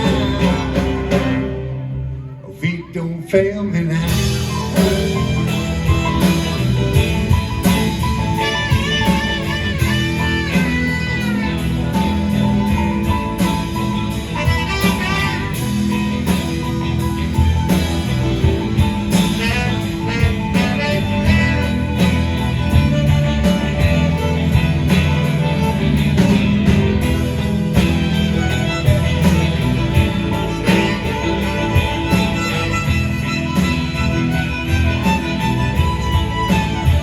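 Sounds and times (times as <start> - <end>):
steady drum beat: 0.0 - 1.9, 4.0 - 37.0
live band playing instrumental: 0.0 - 37.0.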